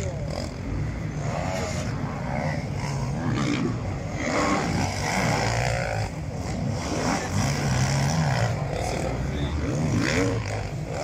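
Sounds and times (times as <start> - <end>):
quad engines revving: 0.0 - 11.0.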